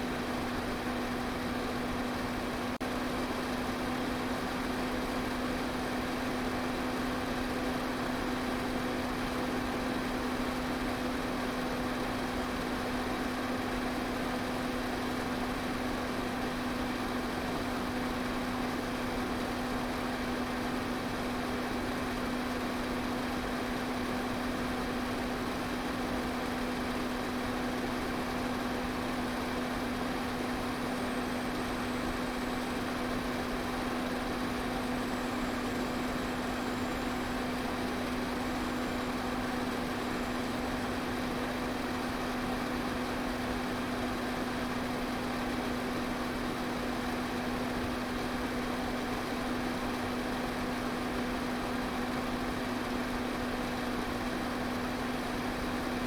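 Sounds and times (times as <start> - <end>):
fan motor hum: 0.0 - 56.0.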